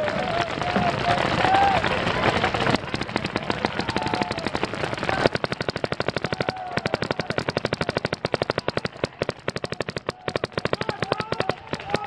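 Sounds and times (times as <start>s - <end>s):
paintball markers firing rapidly: 0.0s - 12.0s.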